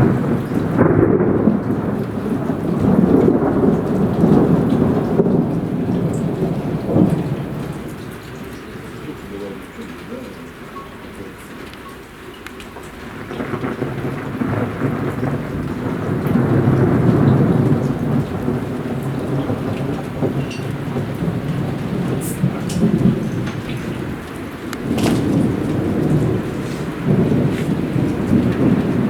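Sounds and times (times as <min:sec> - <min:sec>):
rolling thunder: 0:00.0 - 0:10.3, 0:13.0 - 0:29.0
heavy rain pattering: 0:00.0 - 0:29.0.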